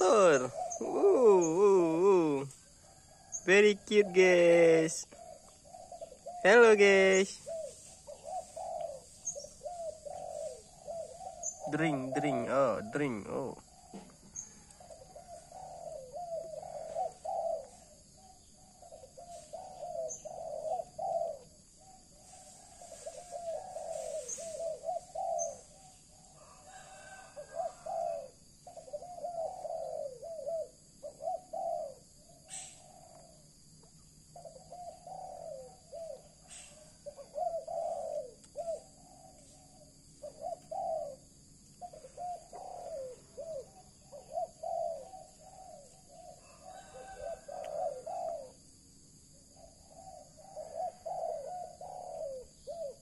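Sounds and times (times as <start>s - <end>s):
pigeons cooing: 0.0s - 33.6s, 34.2s - 53.0s.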